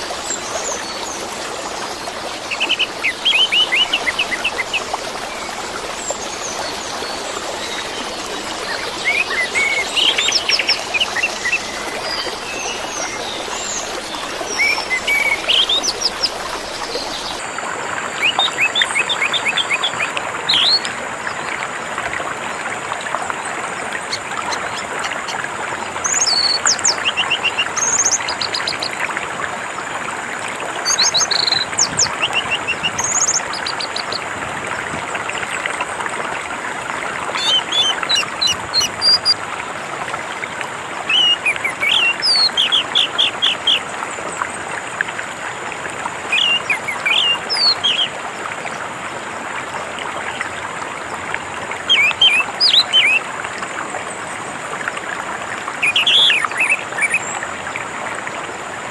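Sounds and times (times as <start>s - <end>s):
flowing water: 0.0s - 58.9s.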